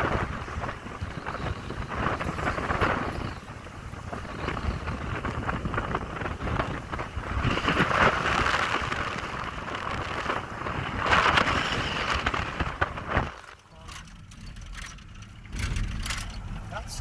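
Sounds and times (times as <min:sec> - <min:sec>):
road rumble: 0:00.0 - 0:17.0
wind buffeting microphone: 0:00.0 - 0:17.0.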